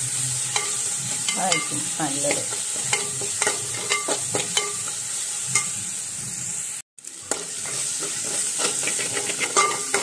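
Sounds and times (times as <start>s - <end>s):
vegetables sizzling in hot oil: 0.0s - 10.0s
metal spoon scraping a pan: 0.1s - 6.5s, 7.1s - 10.0s.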